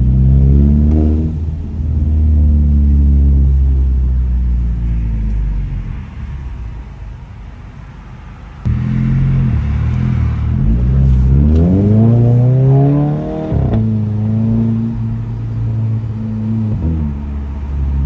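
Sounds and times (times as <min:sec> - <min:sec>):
car exhaust accelerating: 0:00.0 - 0:07.8, 0:08.5 - 0:18.0.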